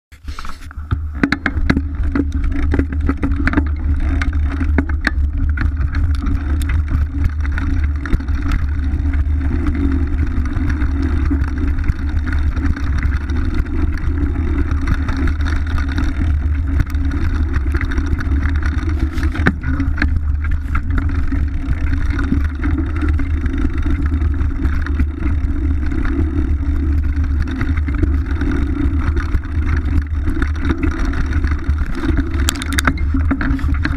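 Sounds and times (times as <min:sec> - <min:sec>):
bike rattling and knocking: 0:00.2 - 0:33.9
wind rumble on microphone: 0:00.2 - 0:33.9.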